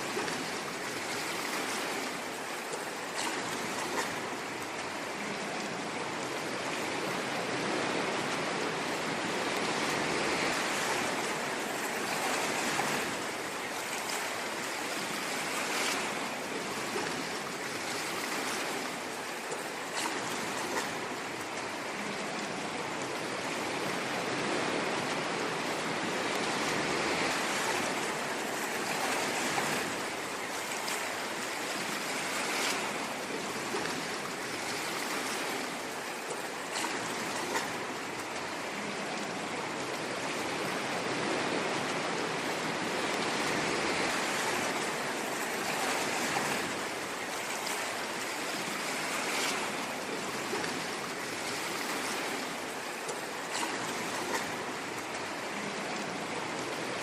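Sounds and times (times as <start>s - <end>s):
sea waves washing on shore: 0.0s - 57.0s.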